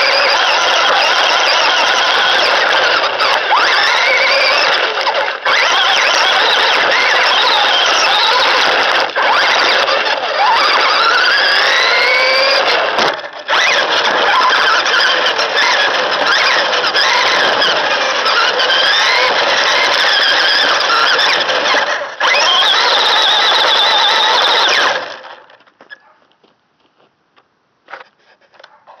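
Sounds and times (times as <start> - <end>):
rc truck motor whine: 0.0 - 26.0
chassis and tyre noise: 0.0 - 27.2.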